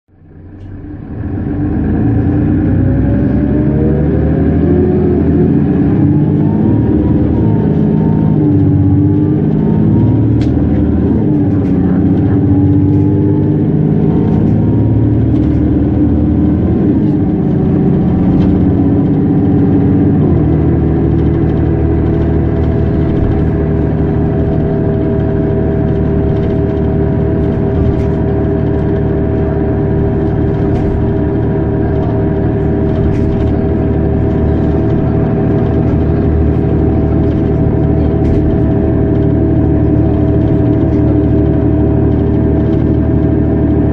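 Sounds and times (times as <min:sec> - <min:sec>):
bus engine accelerating: 0:00.1 - 0:43.9.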